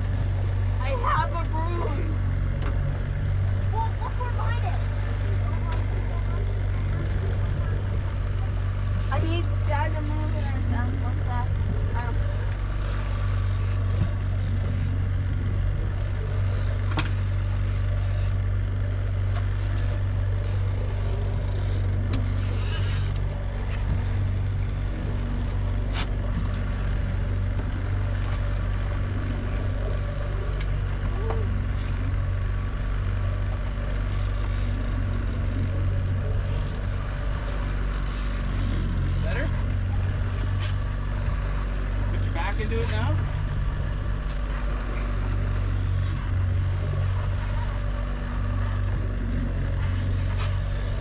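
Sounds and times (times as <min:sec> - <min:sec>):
fishing reel drag whining: 0:00.0 - 0:01.9, 0:04.4 - 0:11.0, 0:11.8 - 0:51.0
boat motor droning: 0:00.0 - 0:51.0.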